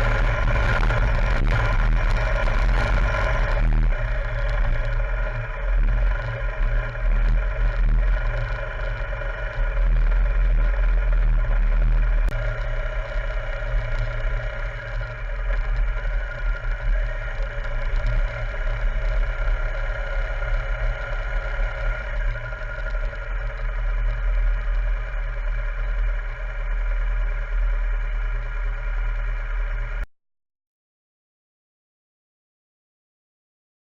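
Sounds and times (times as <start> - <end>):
motorcycle engine rumbling: 0.0 - 30.0.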